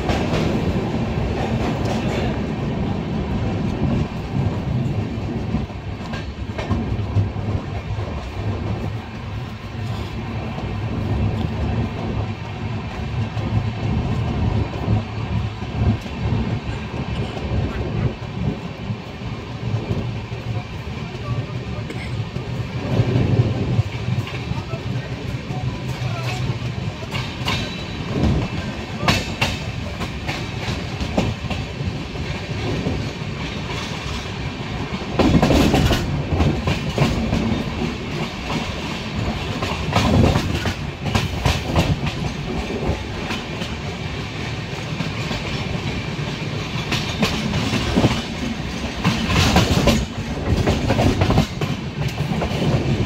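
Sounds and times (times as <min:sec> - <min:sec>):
rumble of moving coaches: 0:00.0 - 0:53.0
train wheels clattering over rail joints: 0:03.4 - 0:21.2, 0:21.9 - 0:53.0.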